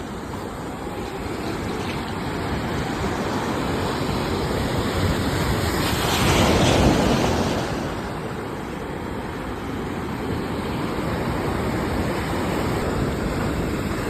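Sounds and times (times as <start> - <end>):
sea waves breaking on shore: 0.0 - 14.0.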